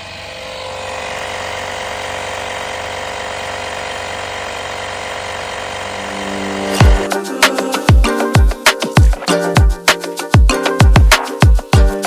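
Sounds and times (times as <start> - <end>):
air compressor pump running: 0.0 - 12.0.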